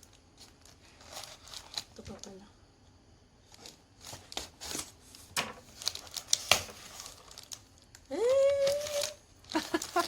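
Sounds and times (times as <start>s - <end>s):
plastic packaging crinkling: 0.0s - 2.4s, 3.4s - 10.0s.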